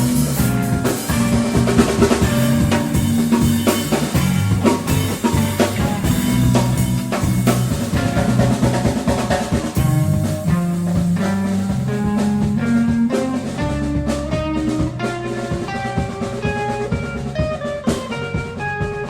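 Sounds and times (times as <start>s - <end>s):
bass line: 0.0s - 19.0s
drum kit steady beat: 0.0s - 19.0s
electric guitar notes: 0.0s - 19.0s.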